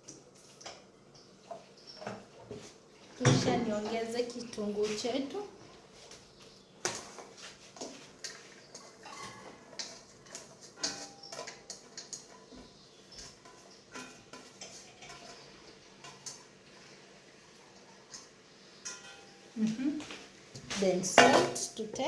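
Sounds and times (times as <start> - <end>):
utensil scraping and clinking pot: 0.0 - 22.0.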